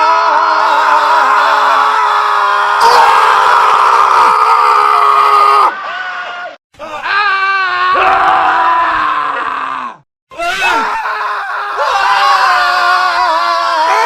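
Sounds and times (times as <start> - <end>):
men screaming: 0.0 - 14.0.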